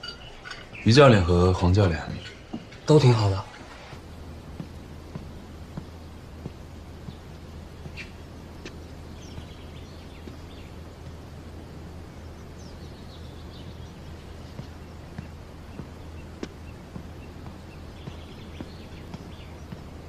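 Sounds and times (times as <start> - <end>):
bird trill: 0.0 - 3.2, 6.9 - 20.0
birds chirping: 0.0 - 20.0
steady low hum: 0.0 - 20.0.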